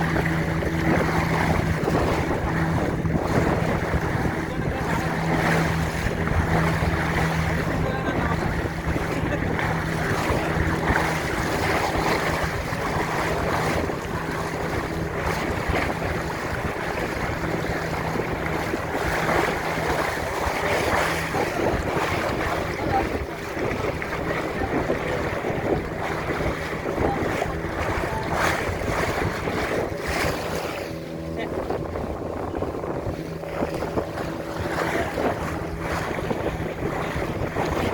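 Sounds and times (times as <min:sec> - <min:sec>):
boat engine humming: 0:00.0 - 0:37.9
water rushing past hull: 0:00.0 - 0:37.9
wind buffeting microphone: 0:00.0 - 0:37.9.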